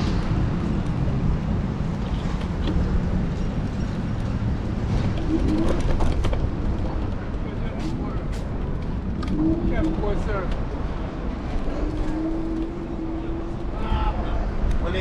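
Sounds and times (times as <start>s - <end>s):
road and wind rumble: 0.0s - 15.0s.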